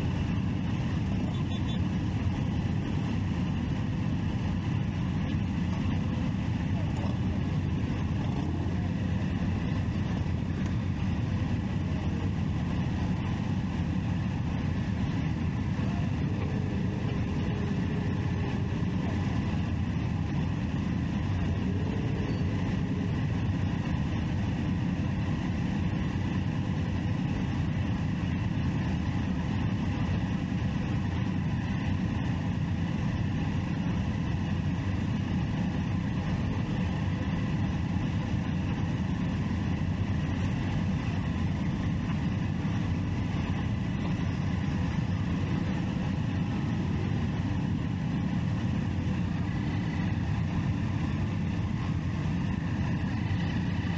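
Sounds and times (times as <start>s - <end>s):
motorcycle engine running: 0.0s - 53.9s
road noise rumble: 0.0s - 53.9s.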